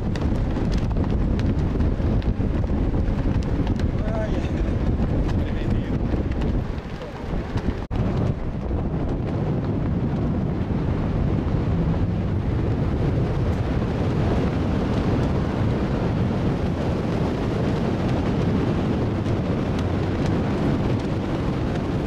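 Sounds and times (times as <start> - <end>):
wind blowing across microphone: 0.0 - 22.0.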